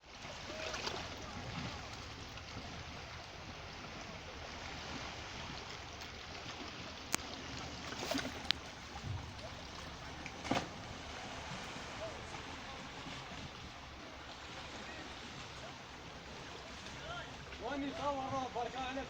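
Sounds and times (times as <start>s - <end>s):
sea water rushing: 0.0s - 19.0s
water swishes: 0.0s - 19.0s.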